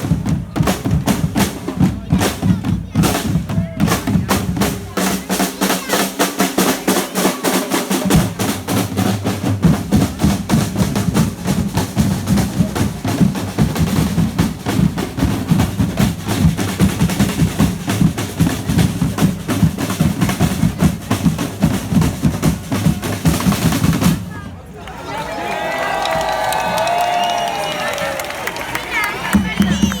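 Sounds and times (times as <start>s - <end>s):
snare and bass drums playing: 0.0s - 24.3s
drum rolls: 0.0s - 24.6s, 25.9s - 30.0s.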